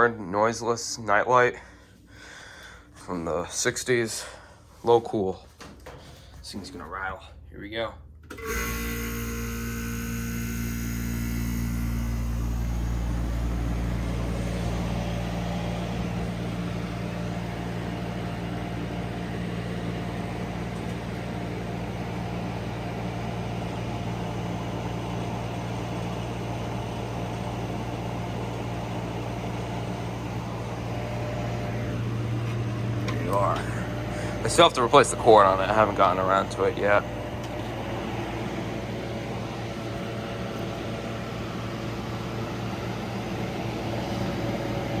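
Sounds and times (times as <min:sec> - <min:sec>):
window air conditioner humming: 0:00.0 - 0:45.0.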